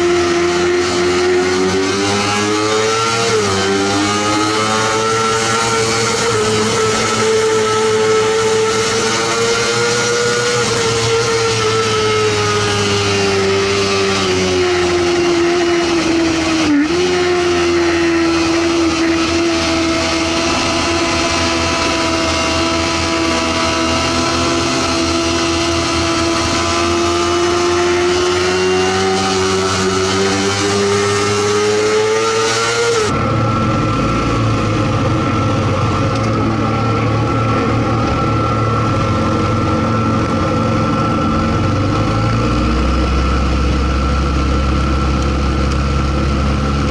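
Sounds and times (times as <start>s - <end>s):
low engine rumble with whine: 0.0s - 46.9s
motorcycle engine at high revs: 0.0s - 46.9s.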